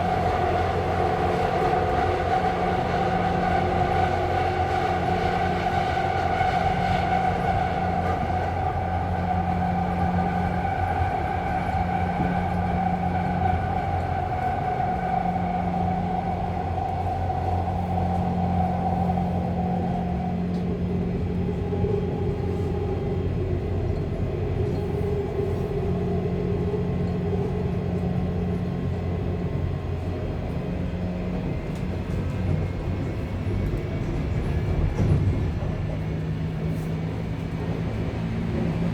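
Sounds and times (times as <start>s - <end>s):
subway train rumbling: 0.0s - 38.9s.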